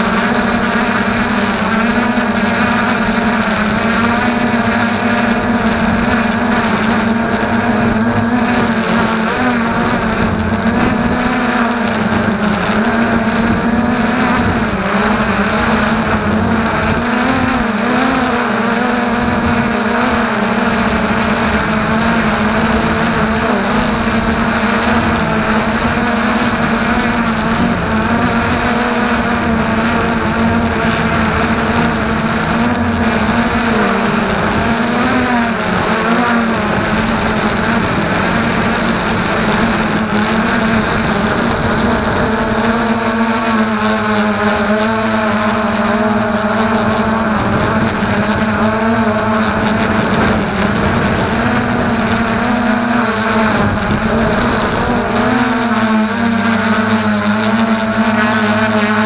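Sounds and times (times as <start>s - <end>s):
drone motors buzzing: 0.0s - 59.0s.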